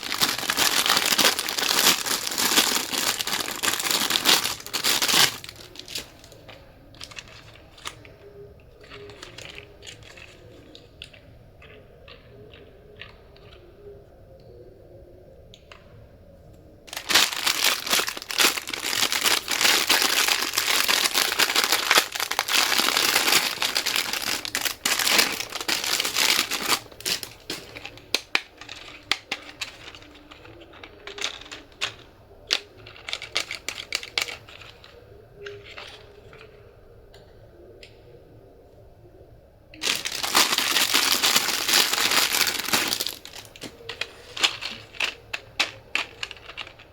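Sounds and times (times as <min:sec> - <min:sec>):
crinkly material crumpled and torn: 0:00.0 - 0:11.8, 0:16.9 - 0:36.6, 0:39.8 - 0:46.9.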